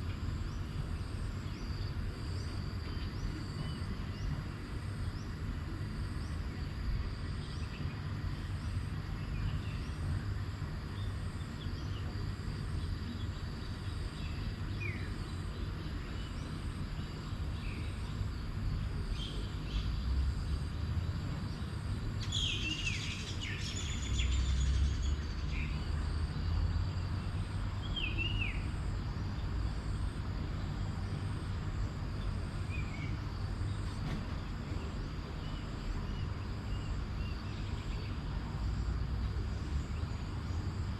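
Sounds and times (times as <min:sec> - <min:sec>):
faint high hum: 0:00.0 - 0:40.9.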